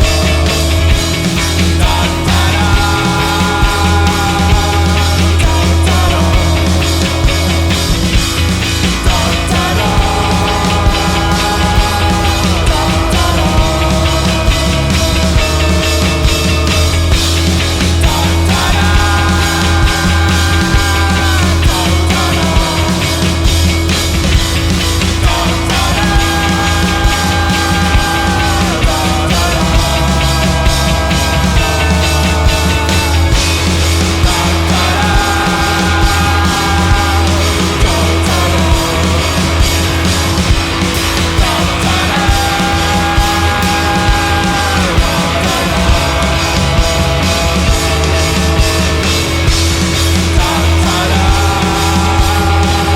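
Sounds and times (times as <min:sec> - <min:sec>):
heavy bass: 0:00.0 - 0:52.9
live rock band playing: 0:00.0 - 0:52.9
regular drum beat: 0:00.0 - 0:52.9.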